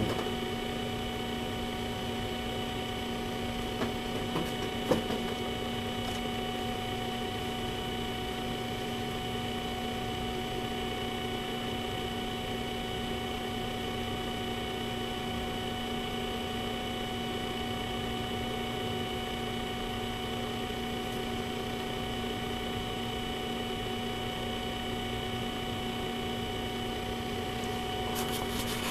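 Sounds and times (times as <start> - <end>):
constant electrical tones: 0.0 - 28.9
electrical hum and hiss: 0.0 - 28.9.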